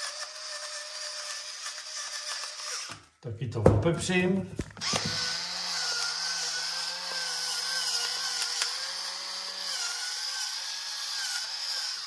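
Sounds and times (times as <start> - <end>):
electric pepper mill whining: 0.0 - 3.2, 4.7 - 12.0.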